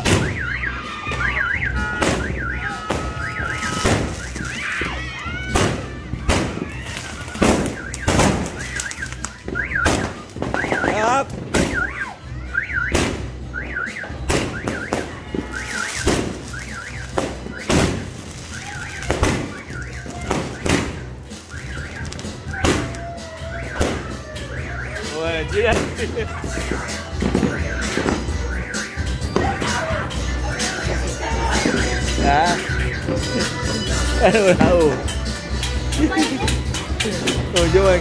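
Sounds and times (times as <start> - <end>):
firecrackers banging: 0.0 - 38.0
fireworks going off: 0.0 - 38.0.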